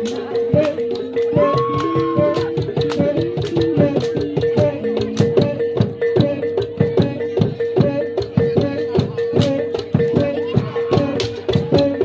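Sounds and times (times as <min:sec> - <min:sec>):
fast drum strikes and clacks: 0:00.0 - 0:12.0.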